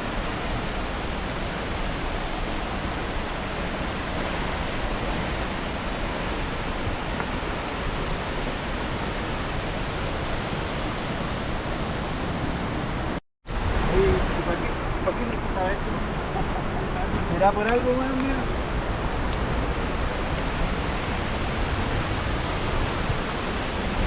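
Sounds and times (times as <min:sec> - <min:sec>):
roar of rushing water: 0:00.0 - 0:24.0.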